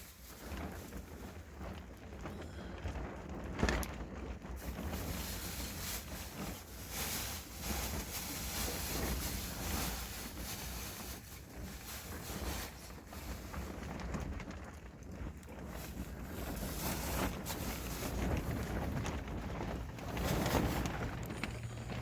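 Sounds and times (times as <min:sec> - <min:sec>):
wind buffeting microphone: 0:00.0 - 0:22.0
deep rumble: 0:00.3 - 0:22.0.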